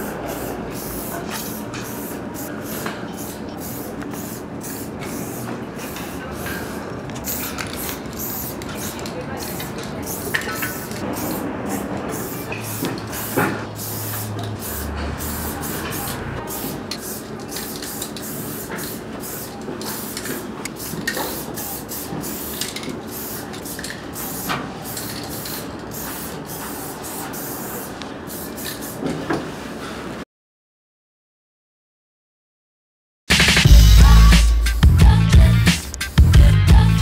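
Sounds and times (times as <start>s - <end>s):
spray paint can hissing: 0.2s - 29.0s, 35.5s - 37.0s.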